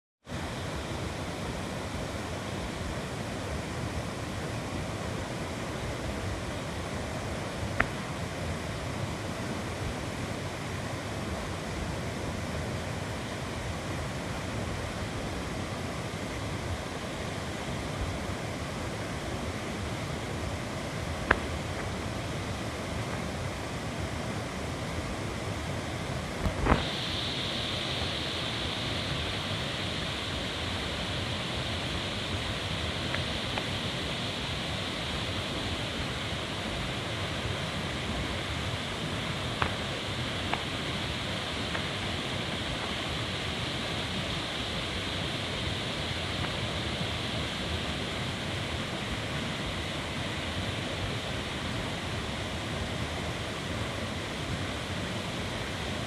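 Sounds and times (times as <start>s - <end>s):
steady high hiss: 0.2s - 56.0s
rushing water: 0.3s - 56.0s.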